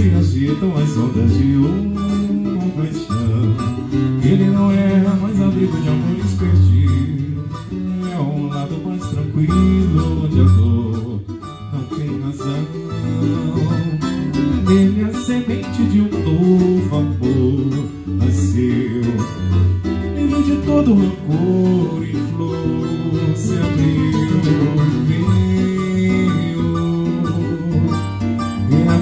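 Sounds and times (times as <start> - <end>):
acoustic guitar: 0.0 - 29.0
man singing: 0.0 - 29.0.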